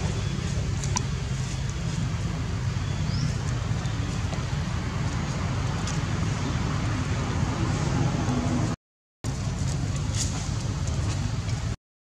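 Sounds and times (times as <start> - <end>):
low outdoor rumble: 0.0 - 11.8.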